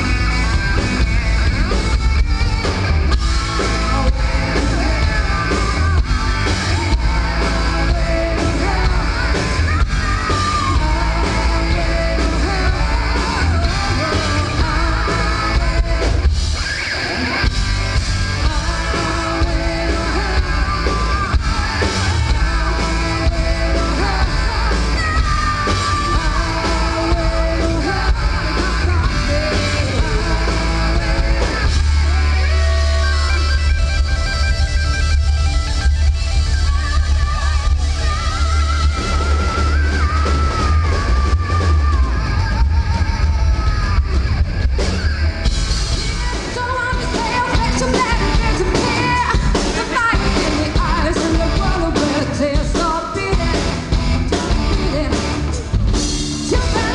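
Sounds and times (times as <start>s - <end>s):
drums: 0.0s - 56.9s
electric guitars: 0.0s - 56.9s
person singing: 3.1s - 16.4s, 18.2s - 33.6s, 36.1s - 45.2s, 45.9s - 55.7s, 56.4s - 56.9s.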